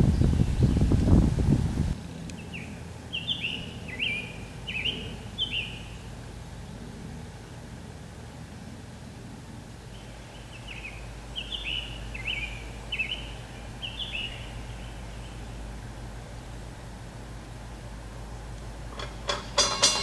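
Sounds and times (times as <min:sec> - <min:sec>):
songbird singing: 0:00.0 - 0:20.0
steady low rumble: 0:00.0 - 0:20.0.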